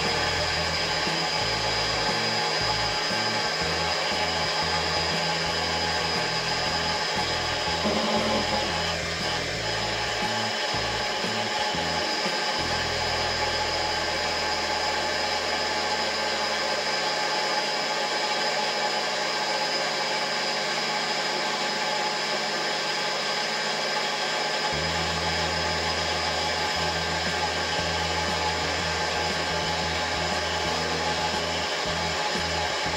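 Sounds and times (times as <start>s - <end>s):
machine motor whine: 0.0s - 32.9s.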